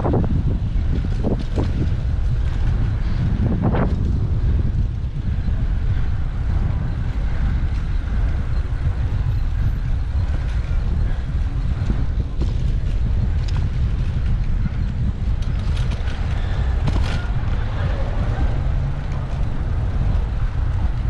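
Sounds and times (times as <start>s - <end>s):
road traffic noise: 0.0s - 21.0s
wind rumbling on microphone: 0.0s - 21.0s.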